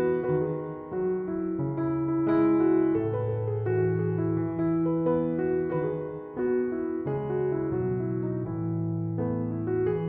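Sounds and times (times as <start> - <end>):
slow gentle piano music: 0.0 - 10.0.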